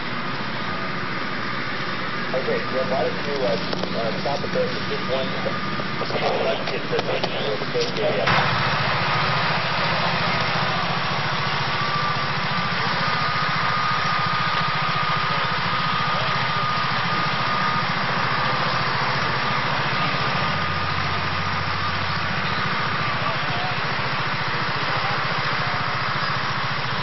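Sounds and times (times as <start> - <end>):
engine running steadily: 0.0 - 27.0
thin high whine: 0.0 - 27.0.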